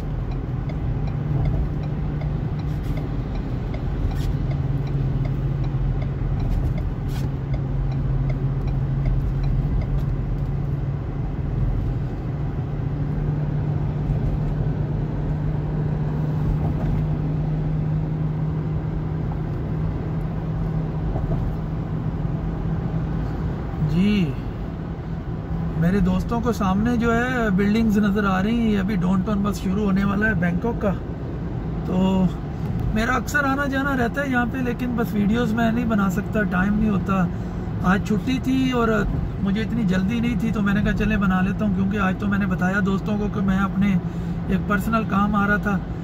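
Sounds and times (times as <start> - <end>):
car engine and tyre hum: 0.0 - 46.0.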